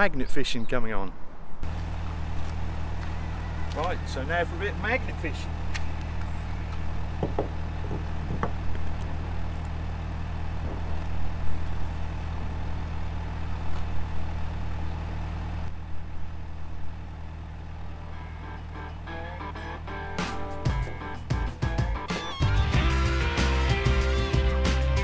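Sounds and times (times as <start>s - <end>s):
engine idling: 1.6s - 25.0s.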